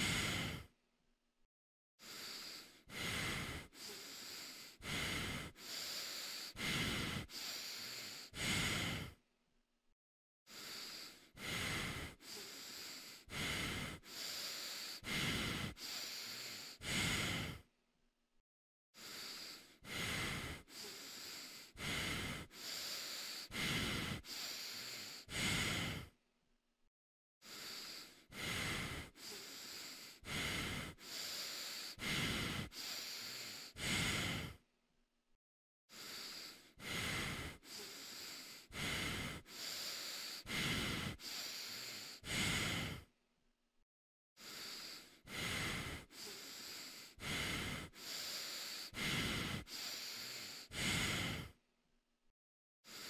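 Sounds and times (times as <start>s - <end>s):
person breathing heavily: 0.0s - 0.7s, 2.0s - 9.2s, 10.5s - 17.7s, 18.9s - 26.2s, 27.4s - 34.6s, 35.9s - 43.2s, 44.4s - 51.7s.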